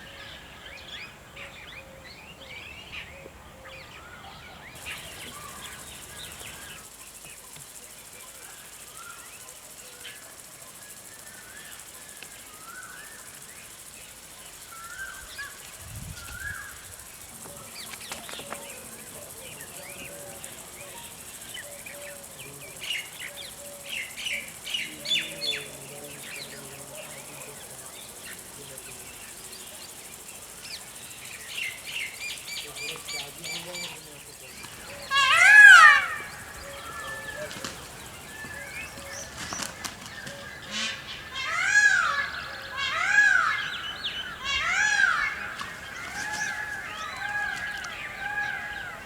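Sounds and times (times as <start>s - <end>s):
songbirds chirping: 0.0s - 49.0s
insect pulsing trill: 4.8s - 48.8s.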